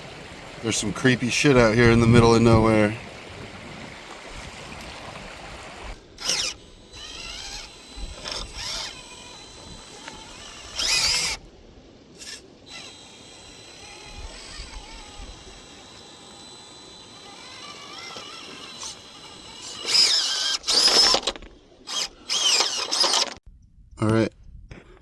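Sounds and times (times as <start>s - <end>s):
small electric motor whining: 0.0s - 11.6s, 12.2s - 23.4s.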